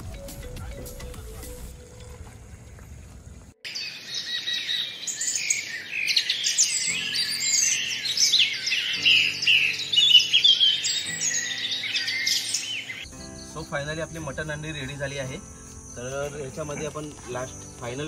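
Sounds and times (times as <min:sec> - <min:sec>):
small birds chirping and twittering: 0:00.0 - 0:18.0.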